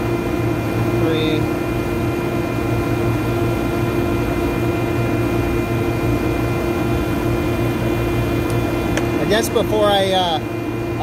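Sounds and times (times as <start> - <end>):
rooftop machinery humming: 0.0 - 11.0.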